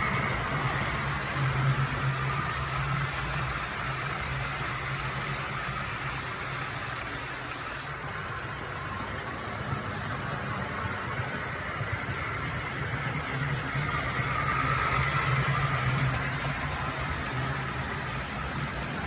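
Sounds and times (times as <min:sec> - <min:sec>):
model train motor hum: 0:00.0 - 0:19.0
wheels rolling on rail: 0:00.0 - 0:19.0.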